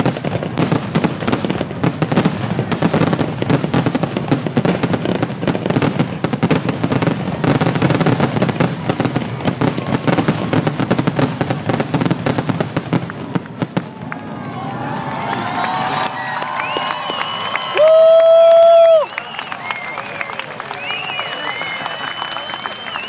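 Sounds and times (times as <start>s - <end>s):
fireworks launches and bursts: 0.0s - 23.0s.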